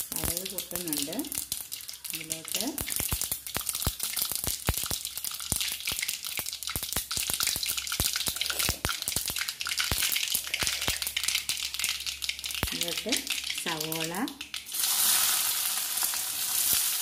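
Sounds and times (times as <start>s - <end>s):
seeds sizzling and popping in oil: 0.0s - 17.0s.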